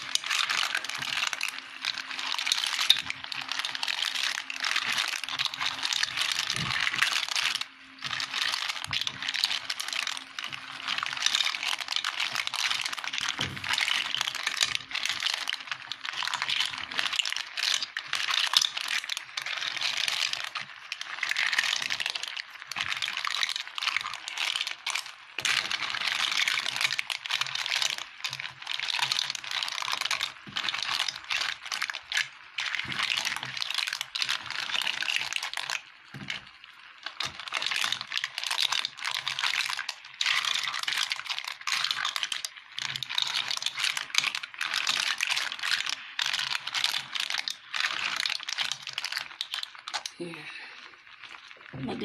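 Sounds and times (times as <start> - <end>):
clam shells clattering in a pan: 0.0 - 50.2
spatula stirring: 0.0 - 50.2
steady sizzle: 0.0 - 52.0.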